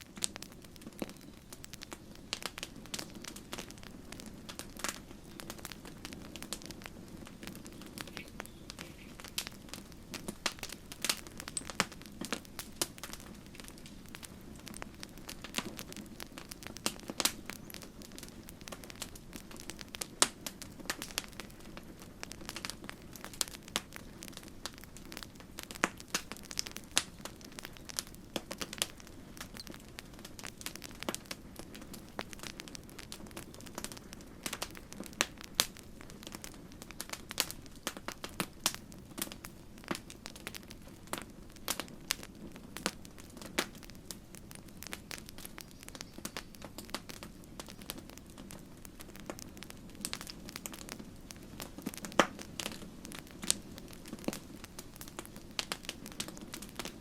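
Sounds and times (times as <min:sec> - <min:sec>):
campfire crackling: 0:00.0 - 0:57.0
fire popping and snapping: 0:00.0 - 0:57.0.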